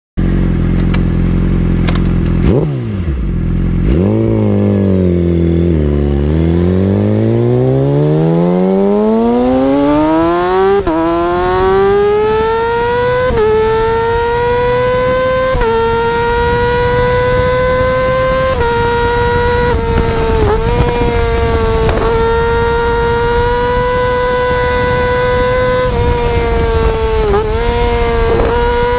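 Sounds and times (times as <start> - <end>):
motorcycle engine accelerating: 0.2 - 28.9.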